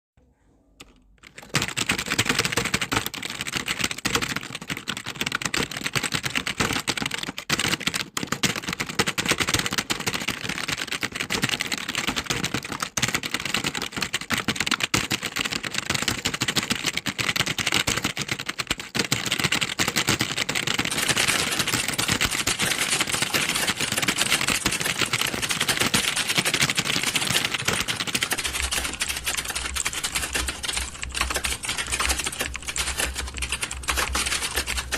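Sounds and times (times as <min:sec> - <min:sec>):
keyboards typing clatter: 0:00.8 - 0:34.9.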